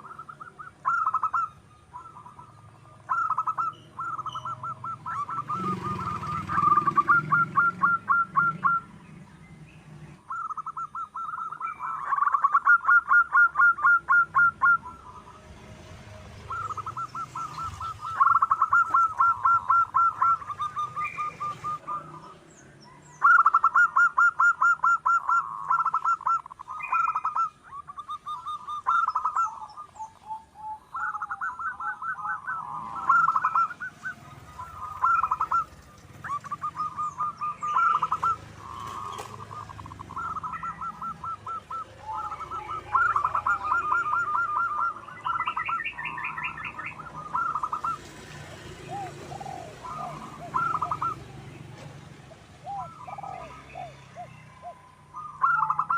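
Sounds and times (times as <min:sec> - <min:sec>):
doves cooing: 0:00.0 - 0:55.9
small birds chirping: 0:00.0 - 0:55.9.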